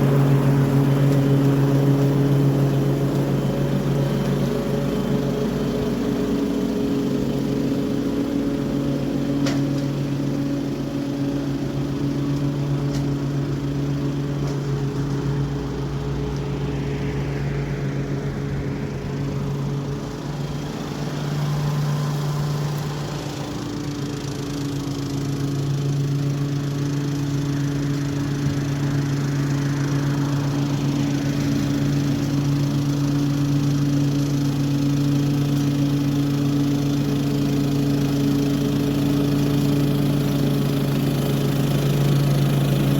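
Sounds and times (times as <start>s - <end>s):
lawn mower cutting grass: 0.0s - 42.9s.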